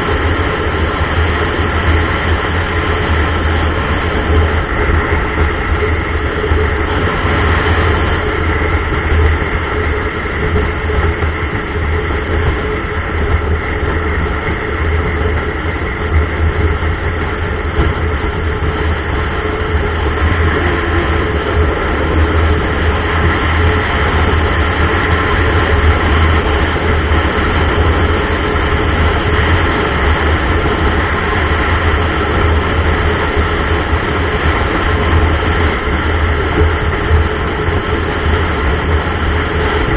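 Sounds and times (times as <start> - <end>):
motorcycle engine drone: 0.0 - 39.9
road noise: 0.0 - 39.9
wind noise: 0.0 - 39.9.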